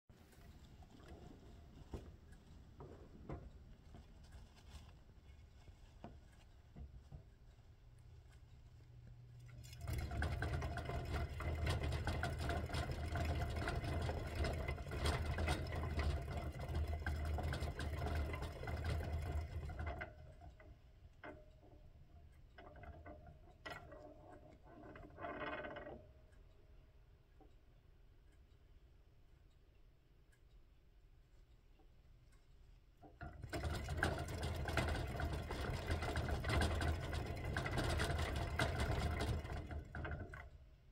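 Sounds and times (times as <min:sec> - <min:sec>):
hamster wheel rattling: 0:00.2 - 0:26.5, 0:33.0 - 0:40.9.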